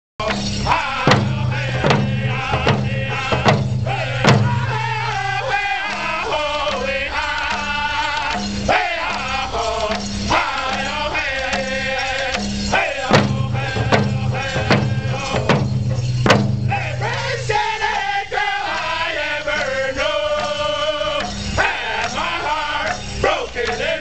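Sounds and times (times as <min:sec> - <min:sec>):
frame drums beating: 0:00.2 - 0:24.0
men singing in unison: 0:00.2 - 0:24.0.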